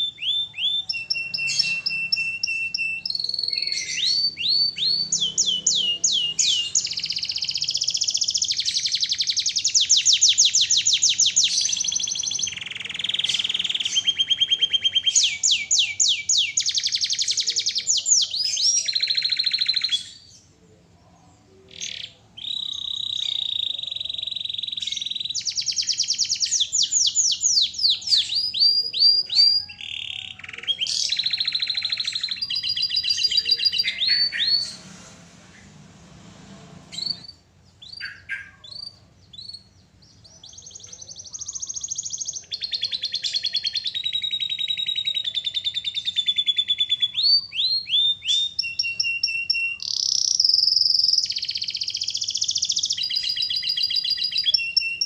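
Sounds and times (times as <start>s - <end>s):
canary singing trills: 0.0s - 35.7s, 36.9s - 55.0s.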